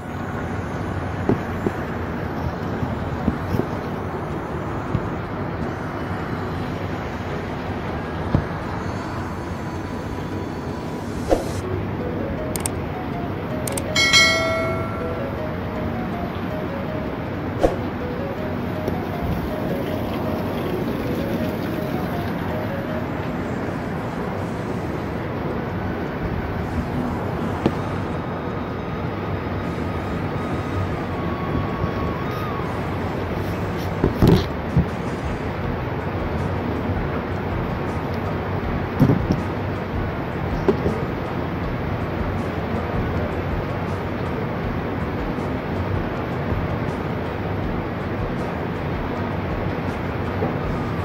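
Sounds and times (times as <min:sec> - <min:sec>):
river rushing: 0:00.0 - 0:51.0.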